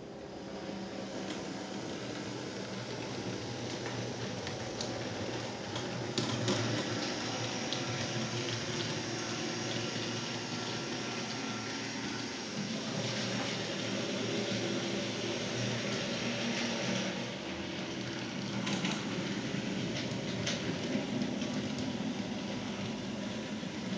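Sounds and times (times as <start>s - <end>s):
model trams running on track: 0.0s - 23.9s.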